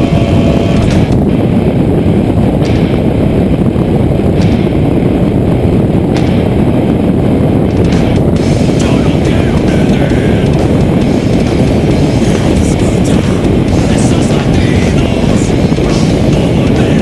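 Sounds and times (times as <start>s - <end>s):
motorcycle engine running: 0.0s - 17.0s
wind buffeting on camera: 0.0s - 17.0s.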